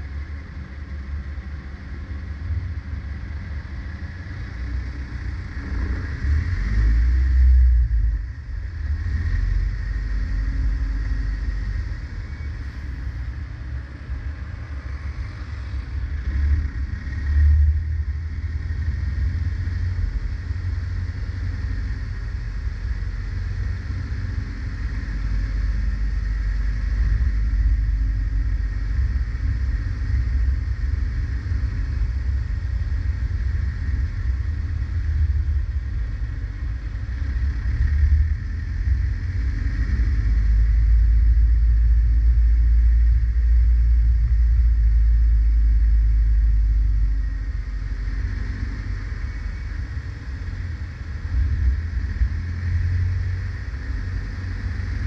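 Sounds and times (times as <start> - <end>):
car driving rumble: 0.0 - 55.0.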